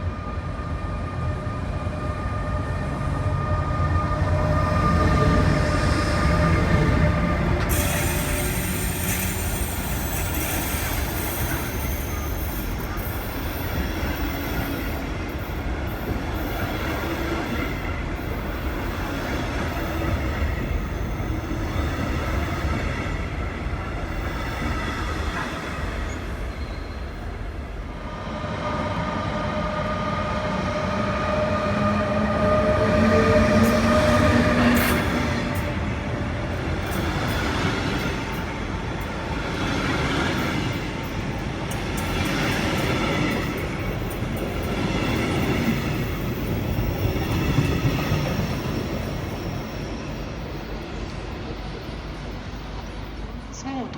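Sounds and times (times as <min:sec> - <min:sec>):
train wheels rumbling on track: 0:00.0 - 0:53.9
train whine: 0:00.0 - 0:53.9.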